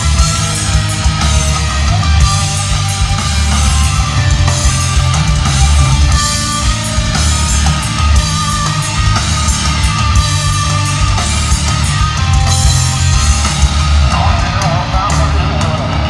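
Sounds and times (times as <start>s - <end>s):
bass guitar: 0.0s - 16.0s
distorted electric guitar: 0.0s - 16.0s
drum kit: 0.0s - 16.0s.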